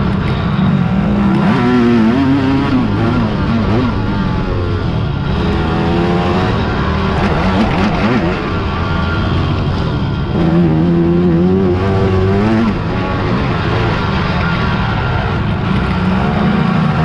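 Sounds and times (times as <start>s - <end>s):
loud engine at steady pitch: 0.0s - 17.0s
quad engines revving: 0.0s - 17.0s.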